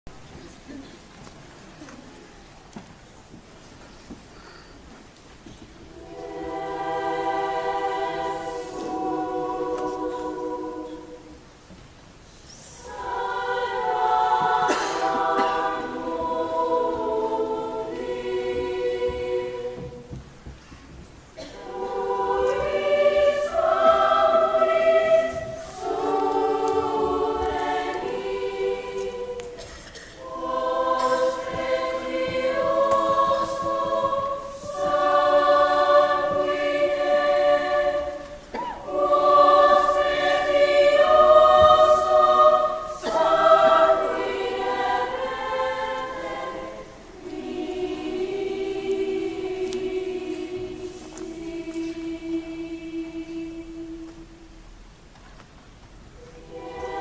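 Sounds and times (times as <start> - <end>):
children's choir singing: 5.4 - 55.0, 55.8 - 57.0.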